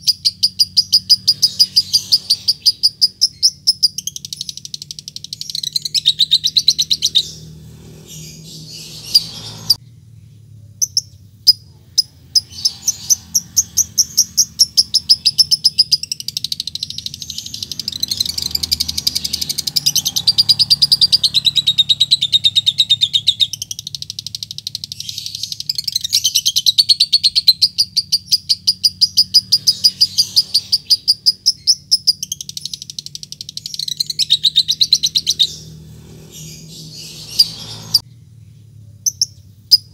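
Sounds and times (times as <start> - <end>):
lovebird chattering: 0.0 - 9.8, 10.8 - 38.0.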